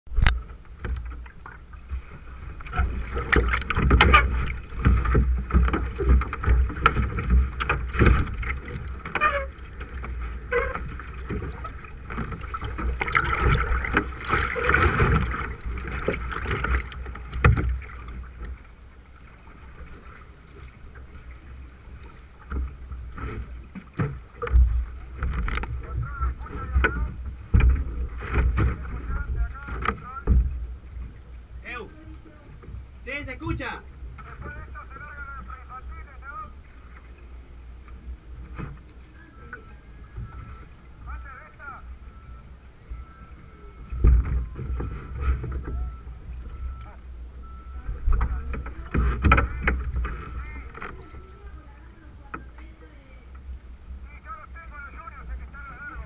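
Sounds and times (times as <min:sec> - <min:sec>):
water splashing and rushing: 0:00.0 - 0:56.0.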